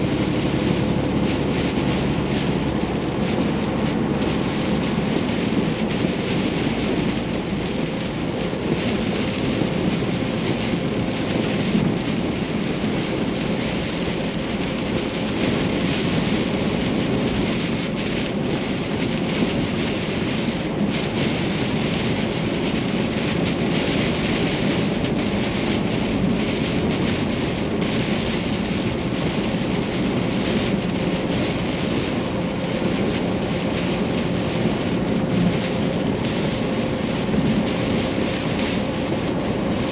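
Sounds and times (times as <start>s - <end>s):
heavy rain on vehicle: 0.0s - 39.9s
road and wind noise: 0.0s - 39.9s.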